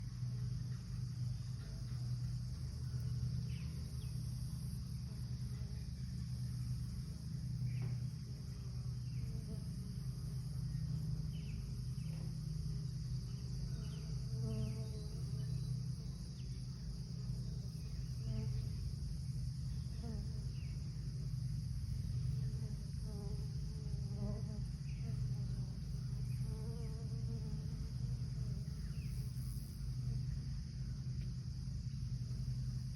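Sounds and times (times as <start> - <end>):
high-pitched insect trill: 0.0 - 32.9.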